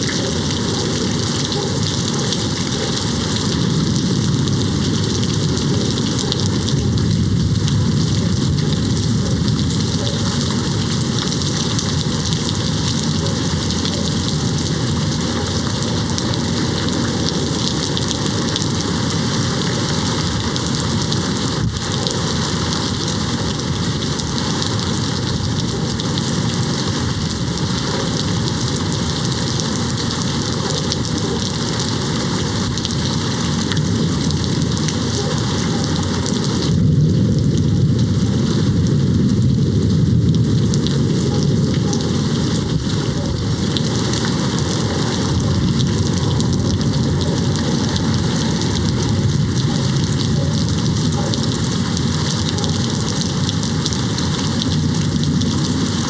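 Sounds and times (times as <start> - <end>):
distant thunder rumble: 0.0 - 56.0
heavy rain on window: 0.0 - 56.0.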